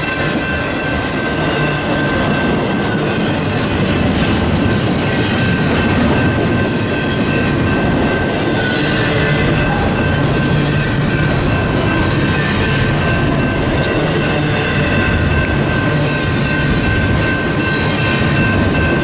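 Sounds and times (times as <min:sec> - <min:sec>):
freight train wheels clattering: 0:00.0 - 0:19.0.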